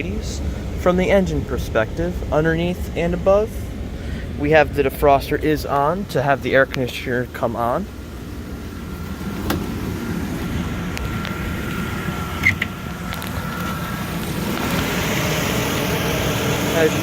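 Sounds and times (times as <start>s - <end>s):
car engine idling: 0.0s - 17.0s
faint whine: 0.0s - 17.0s.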